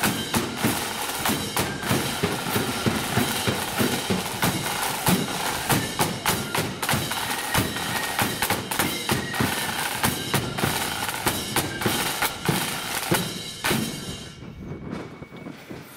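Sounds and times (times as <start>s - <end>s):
rapid snare drum strokes: 0.0s - 14.4s
shrill flutes: 0.0s - 15.7s.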